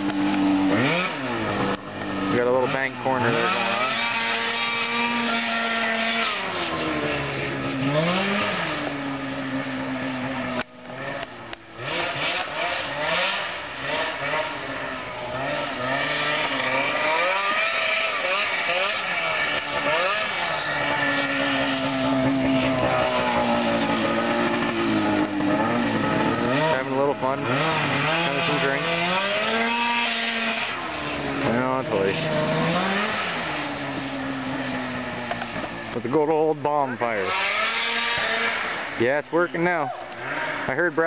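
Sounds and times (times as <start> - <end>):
snowmobile engine whining: 0.0 - 41.0.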